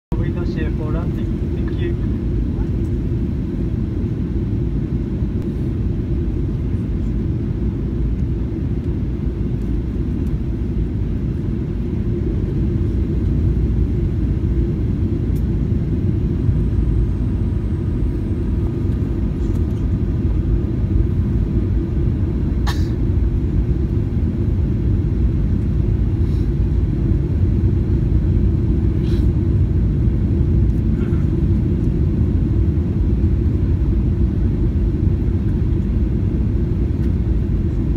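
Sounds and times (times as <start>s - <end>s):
airliner cabin rumble: 0.1s - 37.9s.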